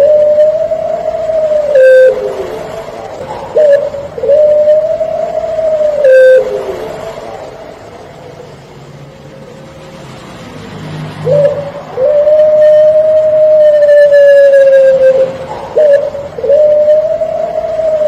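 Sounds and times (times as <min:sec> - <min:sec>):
dove cooing: 0:00.0 - 0:08.6, 0:11.2 - 0:18.0.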